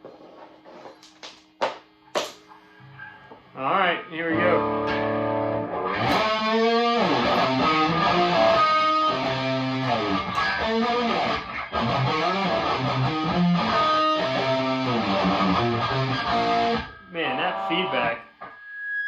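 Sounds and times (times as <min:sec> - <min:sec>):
guitar amp feedback: 0:02.4 - 0:19.0
distorted electric guitar riffing: 0:02.8 - 0:19.0.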